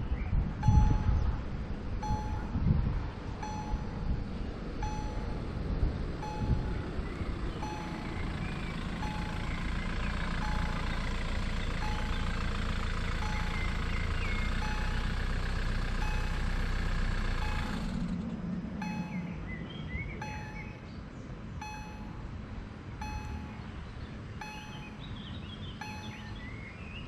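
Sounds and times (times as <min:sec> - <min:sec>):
motor vehicle noise: 0:00.0 - 0:27.0
level crossing warning bell: 0:00.6 - 0:01.4, 0:02.0 - 0:02.7, 0:03.4 - 0:18.2, 0:18.8 - 0:19.5, 0:20.1 - 0:20.9, 0:21.5 - 0:26.5.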